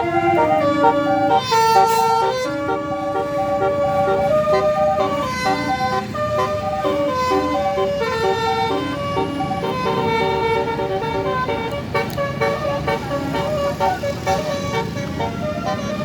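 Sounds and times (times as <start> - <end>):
bus horn playing a melody: 0.0 - 16.0.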